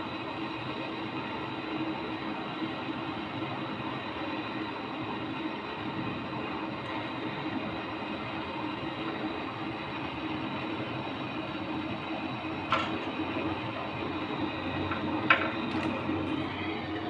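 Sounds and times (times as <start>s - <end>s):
machine running with low hum: 0.0s - 17.0s.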